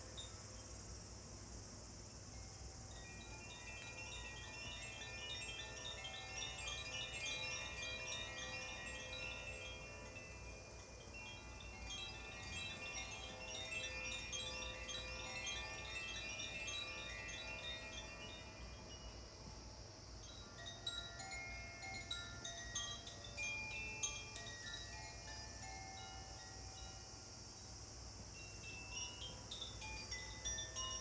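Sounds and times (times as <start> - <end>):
tinkling metal chimes: 2.2 - 31.0.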